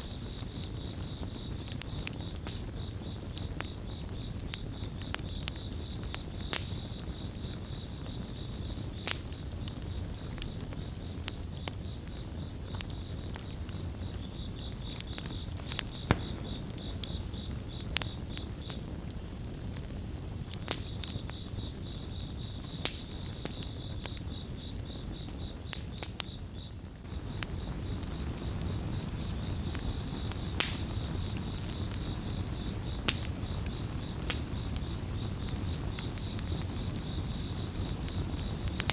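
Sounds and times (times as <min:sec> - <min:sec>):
campfire rumble: 0:00.0 - 0:38.9
cricket chirping: 0:00.0 - 0:38.9
fire crackles and pops: 0:00.0 - 0:38.9.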